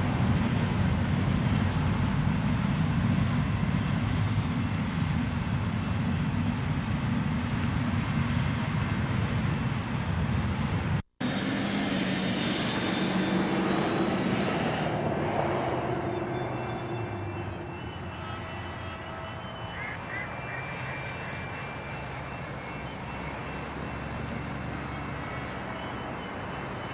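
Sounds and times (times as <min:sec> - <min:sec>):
diesel locomotive engine drone: 0:00.0 - 0:26.9.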